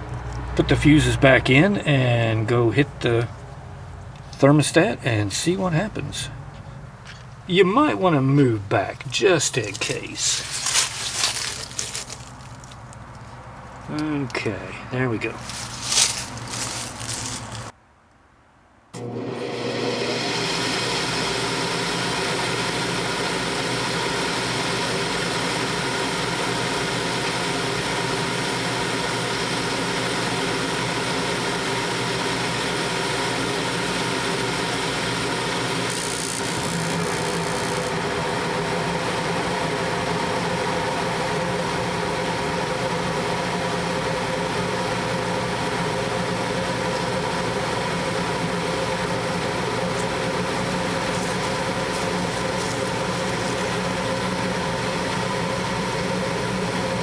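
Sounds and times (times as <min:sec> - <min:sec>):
blower motor running: 0:09.5 - 0:17.7, 0:19.0 - 0:57.0.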